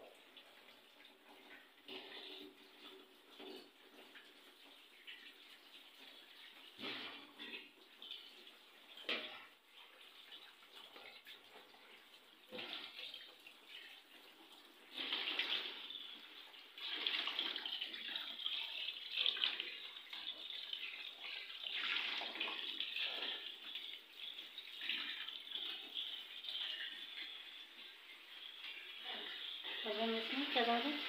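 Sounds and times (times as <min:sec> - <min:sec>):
water running from a tap: 0:00.0 - 0:31.0.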